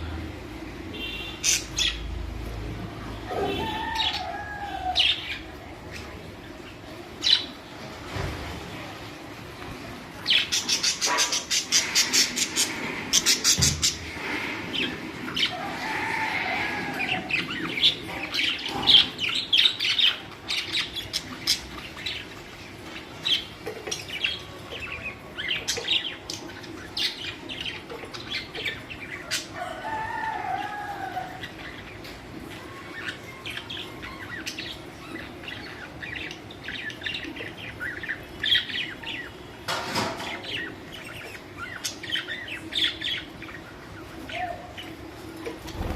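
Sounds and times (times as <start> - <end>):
budgerigars chirping and warbling: 1.0 - 2.2, 10.2 - 45.9.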